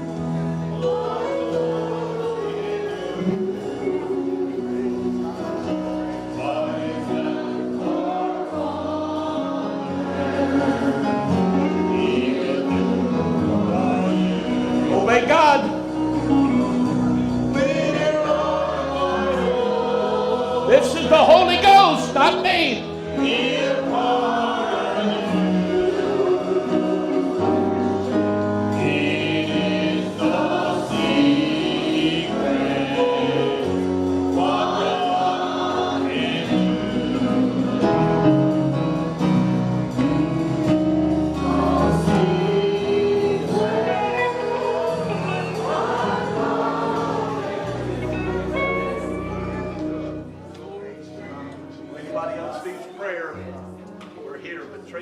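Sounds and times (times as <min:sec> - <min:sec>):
instrumental accompaniment: 0:00.0 - 0:54.8
gospel choir singing: 0:00.0 - 0:55.0.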